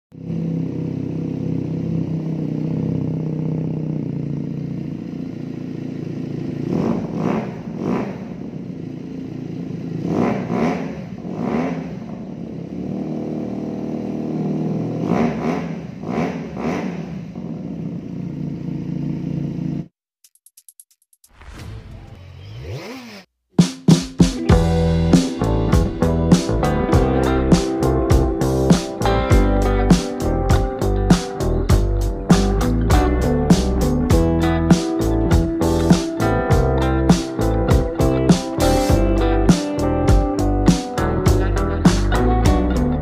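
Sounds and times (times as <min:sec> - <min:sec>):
motorcycle engine idling: 0:00.2 - 0:19.9, 0:24.5 - 0:43.0.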